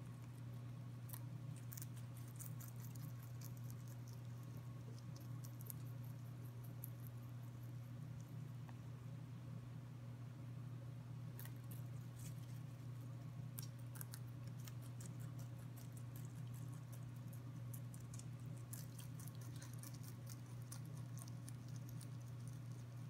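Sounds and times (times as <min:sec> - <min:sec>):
rabbit chewing greens: 0:00.0 - 0:09.7, 0:10.3 - 0:23.0.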